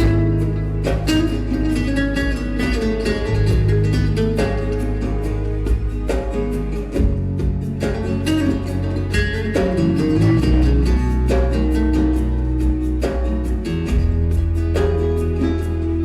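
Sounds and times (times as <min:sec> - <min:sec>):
bass guitar: 0:00.0 - 0:16.0
nylon-string guitar melody: 0:00.0 - 0:16.0
steady percussion: 0:00.0 - 0:16.0.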